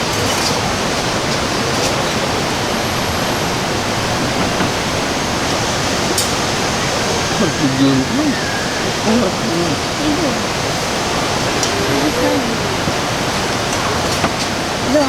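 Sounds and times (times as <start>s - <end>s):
faint clicks: 0.0s - 15.0s.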